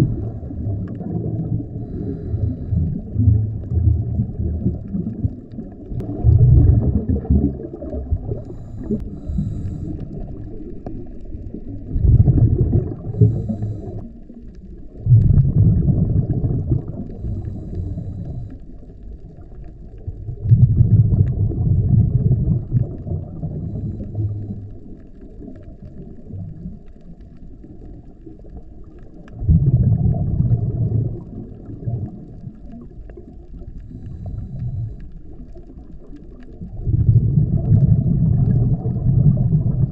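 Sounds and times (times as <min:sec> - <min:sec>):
low underwater rumble: 0:00.0 - 0:39.9
underwater exhaled bubbles: 0:00.0 - 0:39.9.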